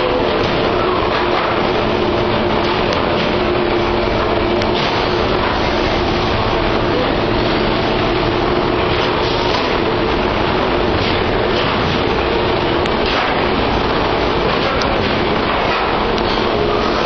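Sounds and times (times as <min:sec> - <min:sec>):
conveyor machinery running: 0:00.0 - 0:17.0.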